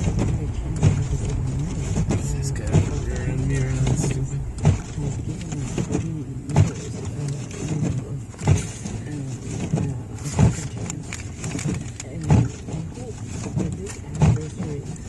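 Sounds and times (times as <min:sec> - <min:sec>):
car engine and road rumble: 0:00.0 - 0:15.0
short thumps: 0:00.0 - 0:15.0.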